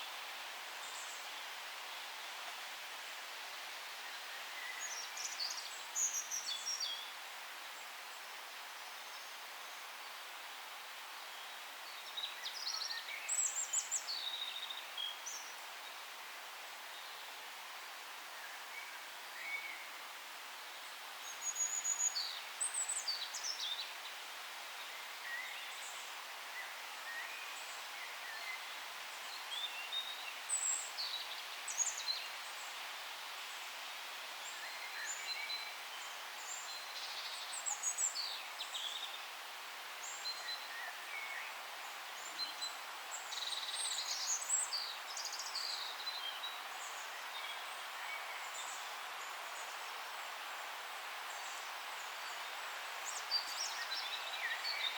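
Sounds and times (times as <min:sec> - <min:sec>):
forest ambience hiss: 0:00.0 - 0:54.9.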